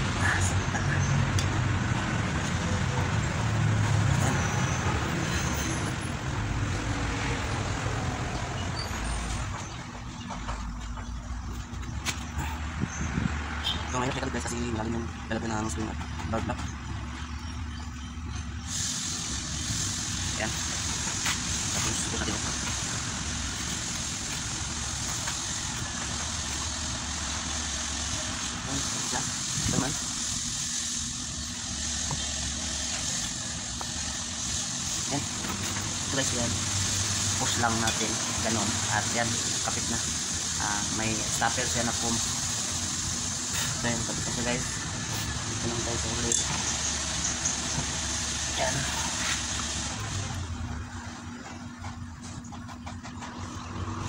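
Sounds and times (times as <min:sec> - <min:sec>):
low rumble of motor vehicles: 0:00.0 - 0:54.0.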